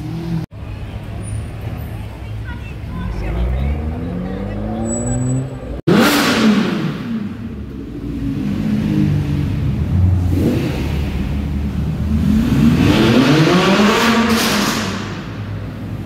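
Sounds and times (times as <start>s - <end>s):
sports car engines revving: 2.8s - 16.0s.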